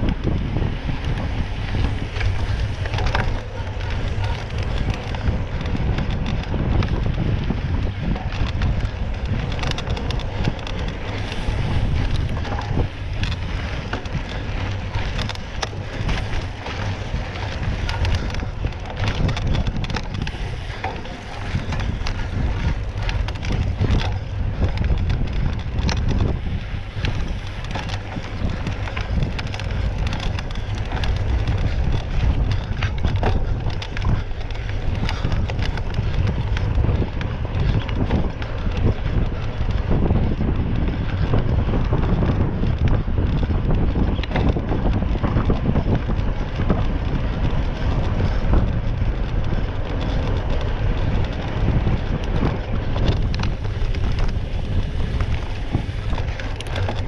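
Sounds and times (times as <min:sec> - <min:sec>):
bike clicks and rattles: 0:00.0 - 0:57.0
wind buffeting on microphone: 0:00.0 - 0:57.0.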